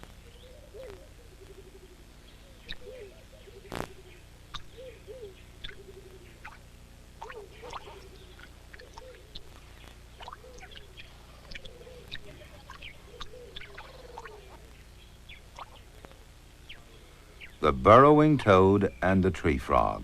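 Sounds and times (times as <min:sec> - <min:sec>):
low wavering animal calls: 0:00.2 - 0:06.6, 0:07.2 - 0:17.7.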